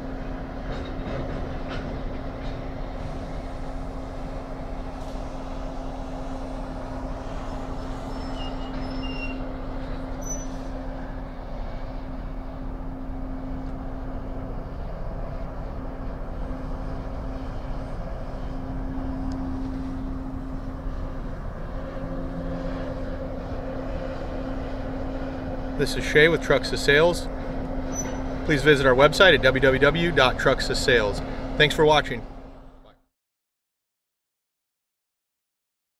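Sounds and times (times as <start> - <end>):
diesel truck engine running: 0.0 - 32.9.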